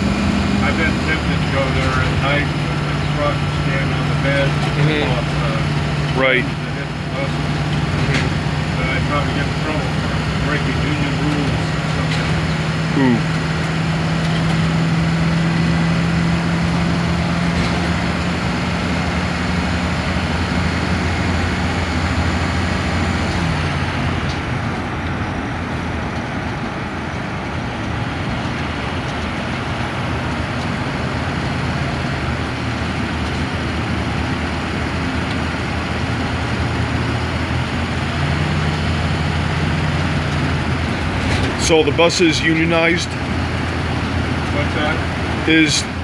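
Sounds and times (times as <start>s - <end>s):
bus engine hum: 0.0s - 46.0s
tyre and road noise: 0.0s - 46.0s.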